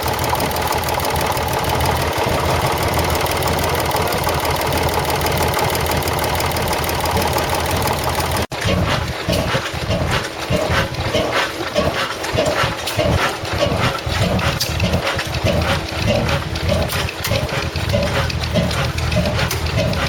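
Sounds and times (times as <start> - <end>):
stationary engine exhaust chuffing: 0.0 - 20.0.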